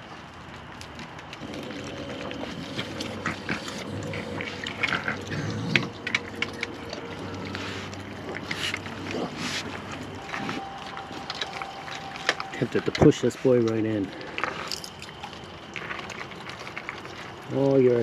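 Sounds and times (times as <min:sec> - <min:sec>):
animals crunching and scratching: 0:00.0 - 0:18.0
faint steady hum: 0:00.0 - 0:18.0.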